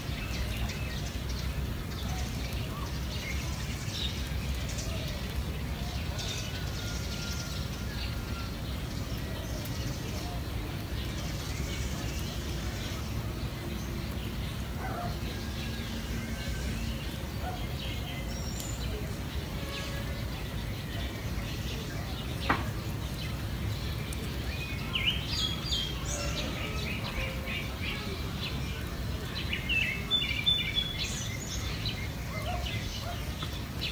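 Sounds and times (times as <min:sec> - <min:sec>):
low background noise: 0:00.0 - 0:33.9.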